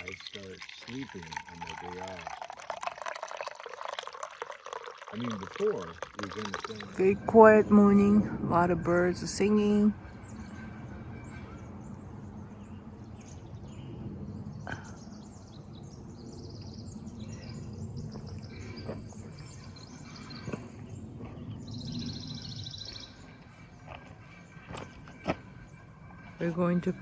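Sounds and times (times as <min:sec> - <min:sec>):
birds singing and chirping: 0:00.0 - 0:27.0.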